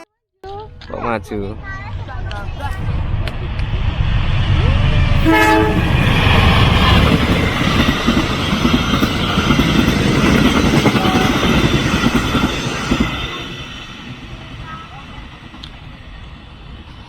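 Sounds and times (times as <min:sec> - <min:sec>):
train wheels clattering on rails: 0:01.8 - 0:16.2.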